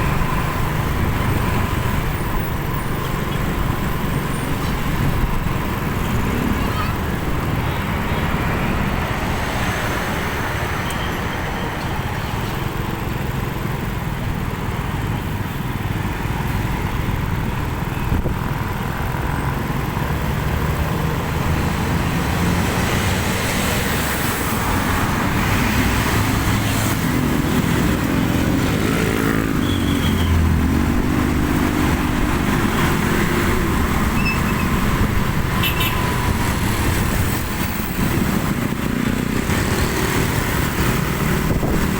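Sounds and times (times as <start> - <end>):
road traffic: 0.0 - 41.9.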